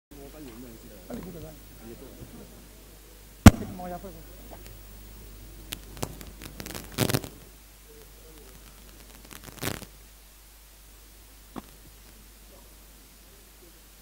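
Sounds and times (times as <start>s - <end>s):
steady background hiss: 0.1s - 14.0s.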